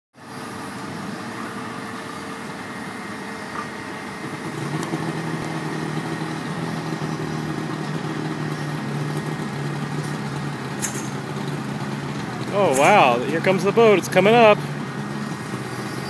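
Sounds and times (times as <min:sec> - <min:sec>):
heavy machinery engine running: 0:00.2 - 0:16.0.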